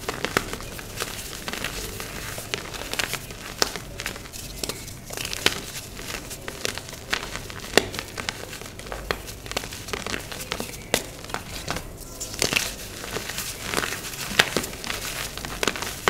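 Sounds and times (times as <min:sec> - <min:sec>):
chalk crunching by hand: 0:00.0 - 0:16.0.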